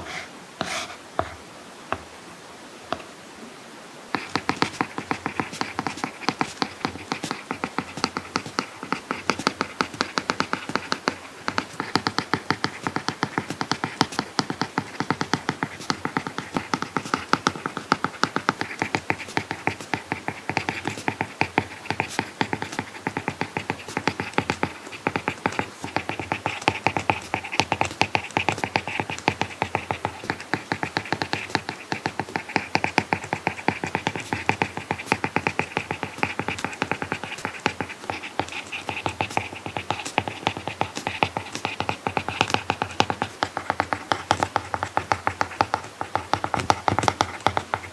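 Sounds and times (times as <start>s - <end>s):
stylus tapping and scratching on screen: 0.0s - 2.1s, 4.1s - 47.9s.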